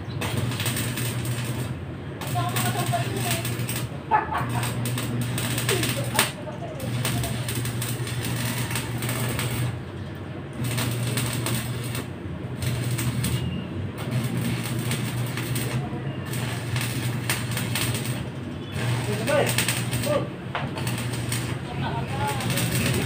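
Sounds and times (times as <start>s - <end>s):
blower motor humming: 0.0s - 23.0s.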